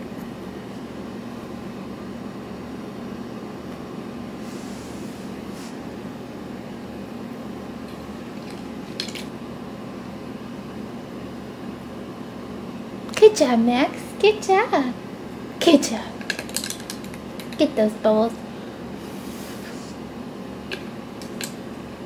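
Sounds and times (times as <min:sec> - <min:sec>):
low indoor hum: 0:00.0 - 0:22.0.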